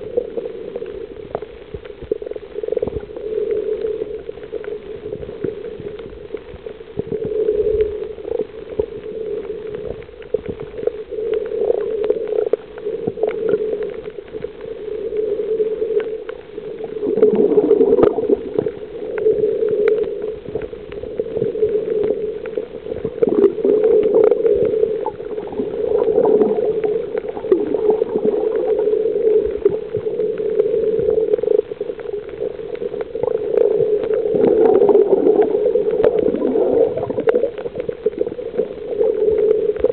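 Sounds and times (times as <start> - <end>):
muffled underwater rushing: 0.0 - 39.9.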